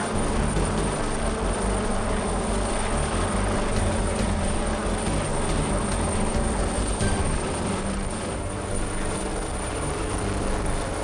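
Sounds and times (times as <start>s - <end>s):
helicopter engine noise: 0.0s - 11.0s
helicopter rotor beating: 0.0s - 11.0s
thin high whine: 0.0s - 11.0s.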